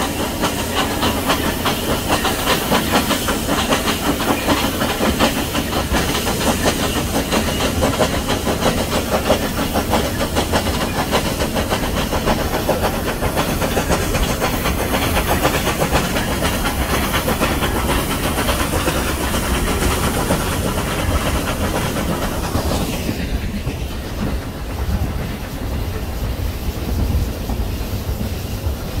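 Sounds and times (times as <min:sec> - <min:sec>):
steam hiss: 0:00.0 - 0:29.0
train wheels clattering: 0:00.0 - 0:29.0.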